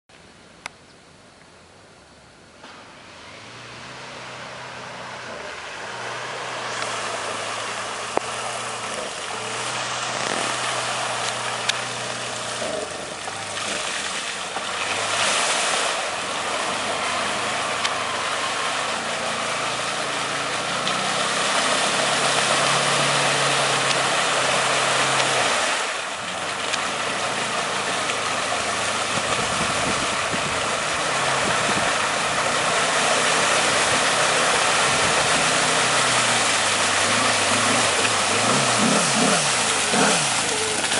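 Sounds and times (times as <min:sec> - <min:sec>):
engine revving: 0:02.6 - 0:40.9.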